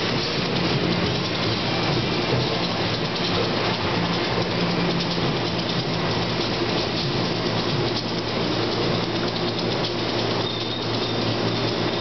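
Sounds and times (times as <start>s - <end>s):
train running noise: 0.0s - 12.0s.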